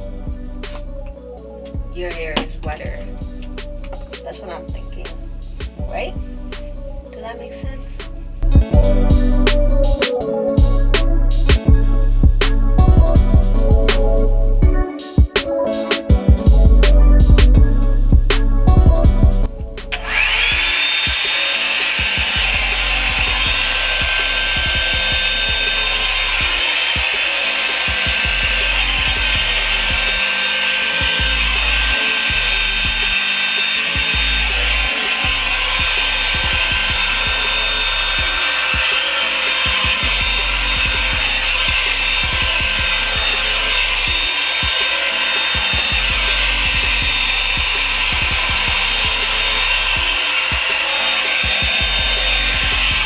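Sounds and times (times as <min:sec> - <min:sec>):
hair dryer whirring: 0:00.0 - 0:11.8, 0:14.6 - 0:18.9, 0:19.5 - 0:53.0.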